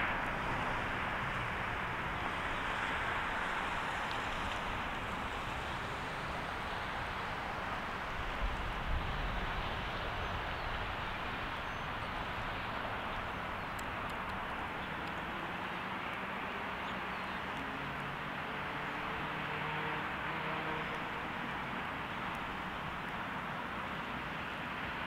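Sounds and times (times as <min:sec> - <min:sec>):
distant diesel locomotive rumble: 0:00.0 - 0:24.6.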